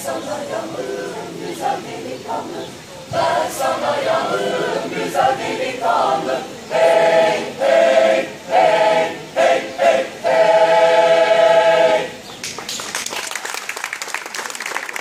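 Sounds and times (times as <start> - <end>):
choir singing a cappella: 0.0 - 12.3.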